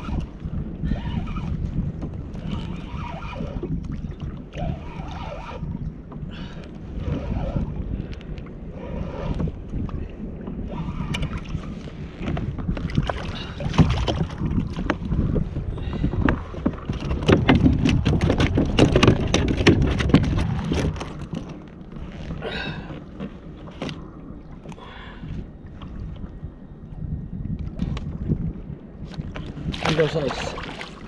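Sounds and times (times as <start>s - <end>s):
fish splashing and slapping kayak: 0.0s - 31.0s
wind rumble on microphone: 0.0s - 31.0s.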